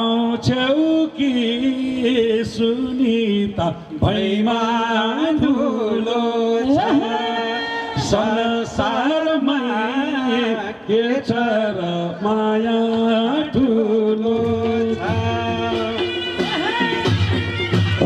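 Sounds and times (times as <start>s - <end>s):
person singing through speakers: 0.0s - 18.0s.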